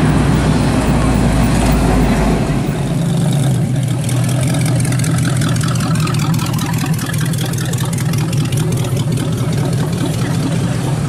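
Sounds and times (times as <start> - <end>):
hot rod engines rumbling: 0.0 - 11.0.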